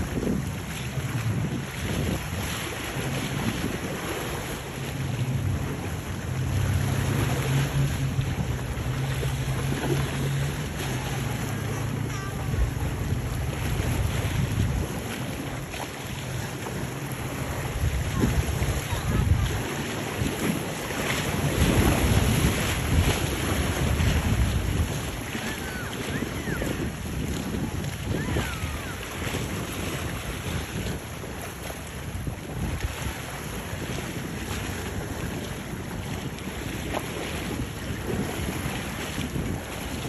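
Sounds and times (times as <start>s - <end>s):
choppy sea waves: 0.0s - 40.0s
outboard motor droning: 0.0s - 40.0s
wind buffeting microphone: 0.0s - 40.0s.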